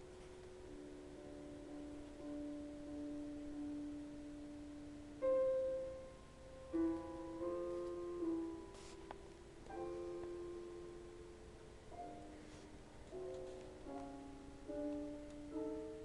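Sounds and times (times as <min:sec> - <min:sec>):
slow quiet piano music: 0:00.0 - 0:16.0.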